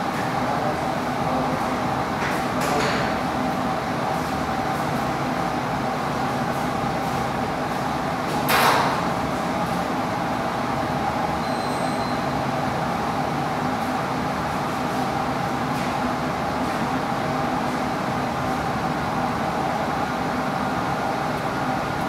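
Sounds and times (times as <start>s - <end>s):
mechanical hum of equipment: 0.0s - 22.0s.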